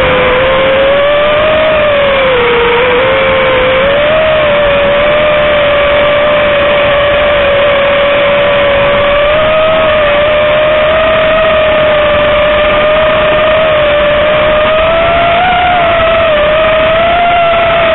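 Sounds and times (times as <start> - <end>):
drone propellers whining: 0.0 - 17.9.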